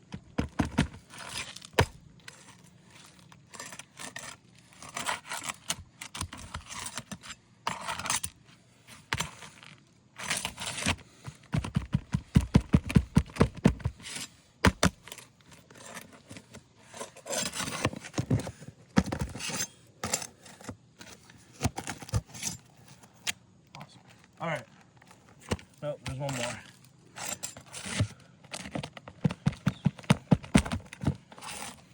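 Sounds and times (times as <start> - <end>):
metal tool scraping shingles: 0.9 - 11.2, 13.8 - 23.3, 25.3 - 31.9.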